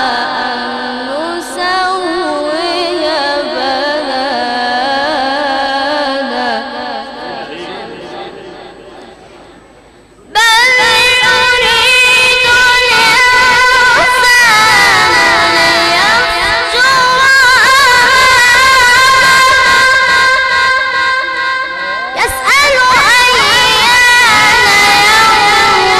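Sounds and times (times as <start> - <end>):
boy reciting melodically: 0.0 - 25.9.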